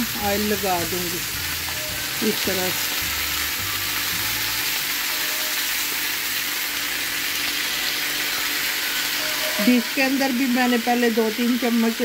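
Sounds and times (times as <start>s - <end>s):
food sizzling on tray: 0.0s - 12.0s.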